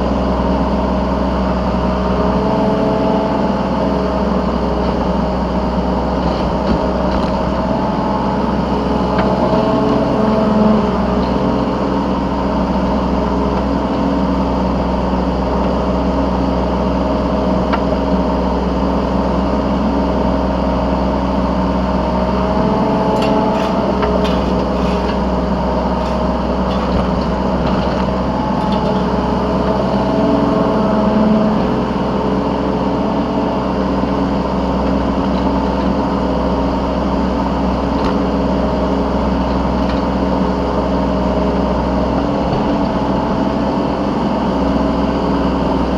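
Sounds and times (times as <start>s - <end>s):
mini excavator engine running: 0.0s - 45.9s.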